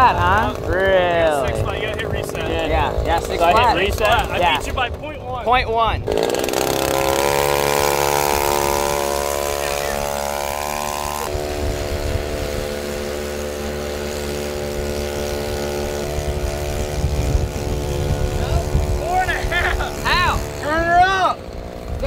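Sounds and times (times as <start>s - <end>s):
small outboard motor running: 0.0s - 22.0s.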